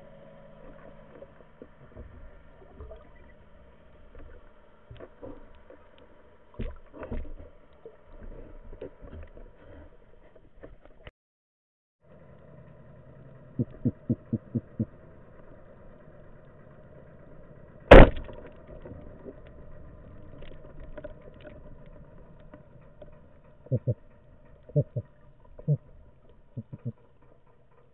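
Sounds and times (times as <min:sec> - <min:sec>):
underwater background noise: 0:00.0 - 0:11.1, 0:12.1 - 0:27.9.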